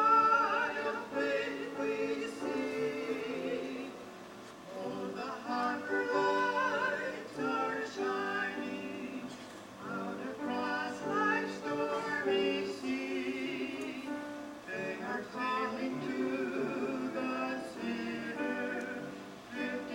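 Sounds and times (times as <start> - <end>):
person singing with vibrato: 0.0 - 19.9.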